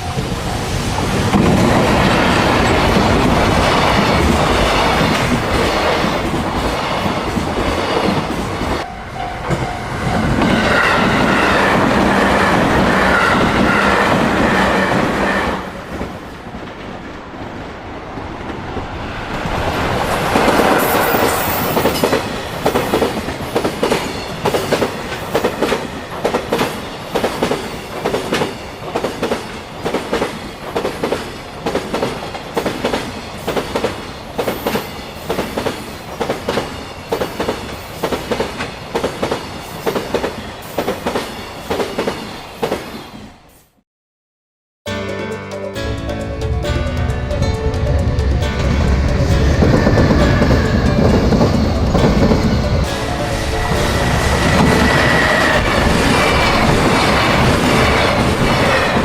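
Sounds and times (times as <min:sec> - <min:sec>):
loud rushing rail noise: 0:00.0 - 0:43.8, 0:44.9 - 0:59.0.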